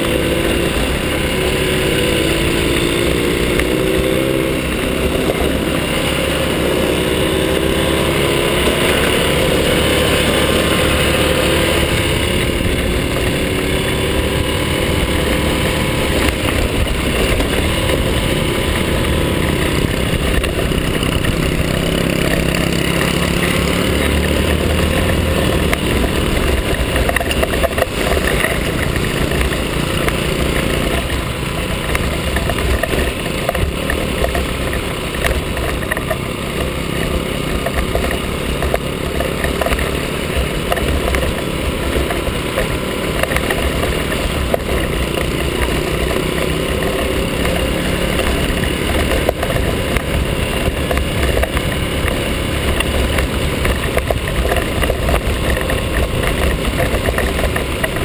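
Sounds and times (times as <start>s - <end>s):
small motorcycle engine revving: 0.0s - 58.0s
steady rushing noise: 0.0s - 58.0s.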